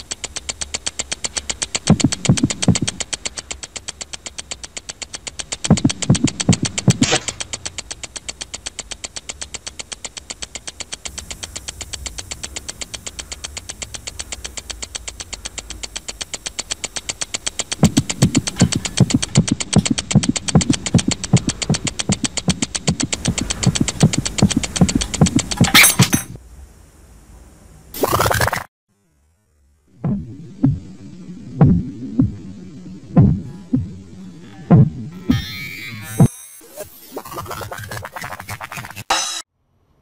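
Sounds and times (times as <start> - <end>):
fast ticking electronic beat: 0.0 - 26.4, 28.0 - 28.7, 30.0 - 39.4
pulsing bass line: 0.0 - 26.4, 29.9 - 39.2.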